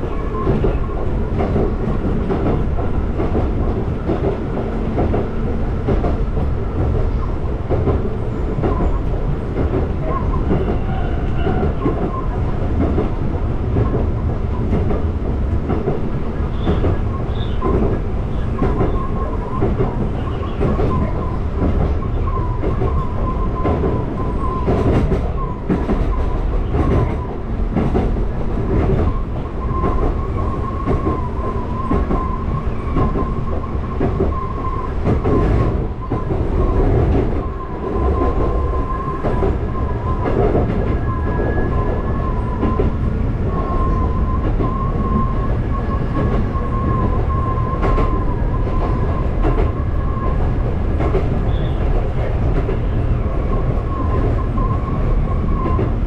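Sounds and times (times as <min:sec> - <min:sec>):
electric train rumble: 0:00.0 - 0:56.0
rail joint clicks: 0:00.0 - 0:56.0.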